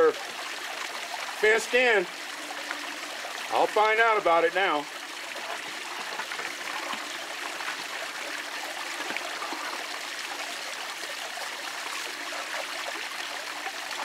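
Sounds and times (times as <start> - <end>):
hose water splashing into basin: 0.0 - 14.0.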